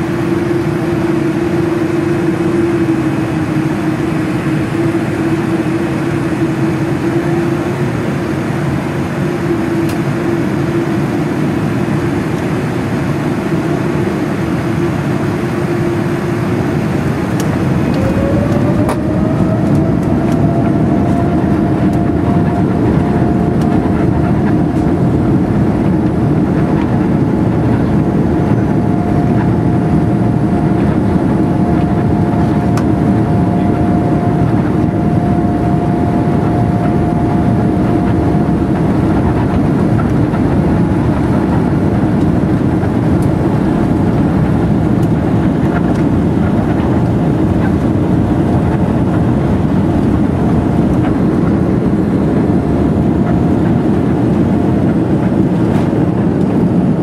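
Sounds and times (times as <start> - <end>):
airplane cabin rumble and hiss: 0.0 - 57.0
faint steady whine: 0.0 - 57.0.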